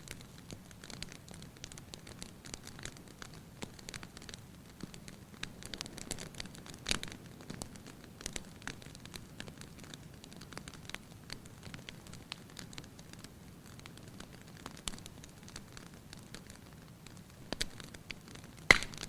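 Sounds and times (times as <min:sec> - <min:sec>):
fire popping and snapping: 0:00.0 - 0:19.0
wood fire crackling: 0:00.0 - 0:19.0.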